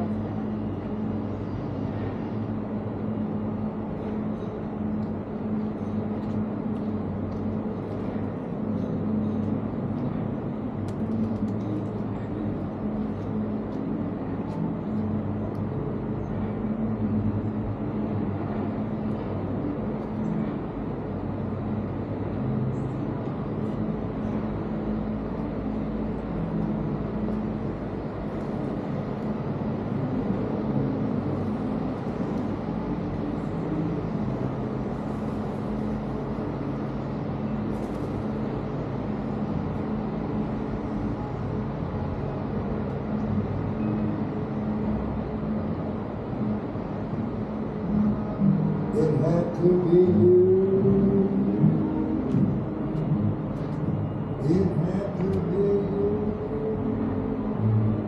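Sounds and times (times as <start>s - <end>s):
city street traffic hum: 0.0s - 58.0s.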